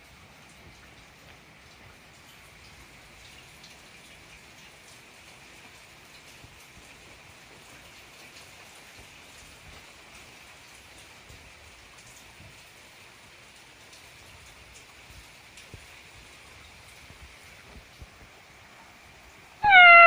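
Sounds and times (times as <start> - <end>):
faint rain falling: 0.0 - 20.0.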